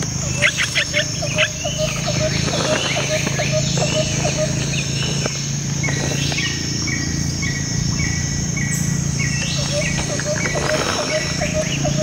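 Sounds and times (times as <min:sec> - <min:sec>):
birds calling: 0:00.0 - 0:12.0
high-pitched insect drone: 0:00.0 - 0:12.0.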